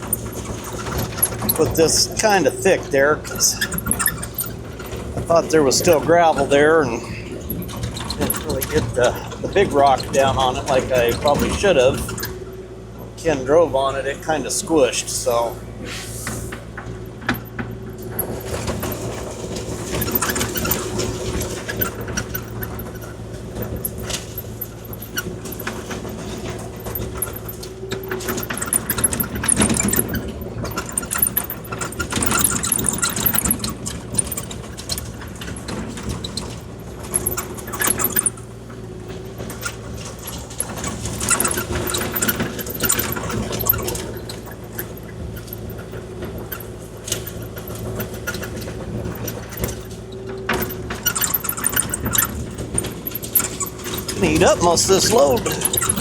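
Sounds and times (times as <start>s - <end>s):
excavator diesel engine running: 0.0s - 56.0s
grating and rattling stone: 3.4s - 12.3s, 18.1s - 38.4s, 39.2s - 56.0s.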